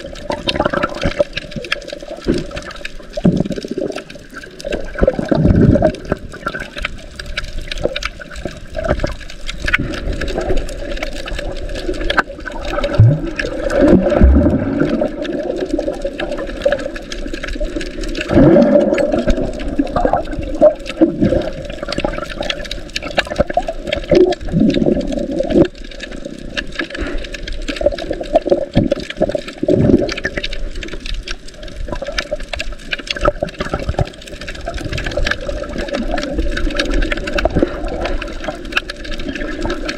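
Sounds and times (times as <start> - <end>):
faint clicks: 0.0 - 39.9
underwater water swirling: 0.0 - 39.9.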